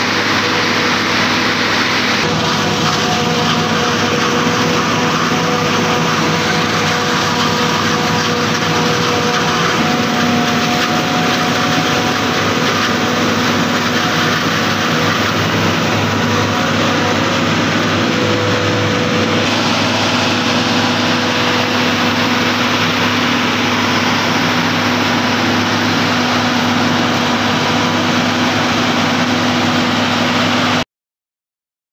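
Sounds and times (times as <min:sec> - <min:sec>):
forage harvester running: 0:00.0 - 0:30.8.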